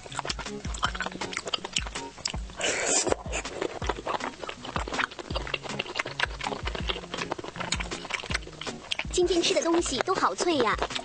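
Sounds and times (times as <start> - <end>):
chewing crunchy food: 0.0 - 11.0
soft background music: 0.0 - 11.0.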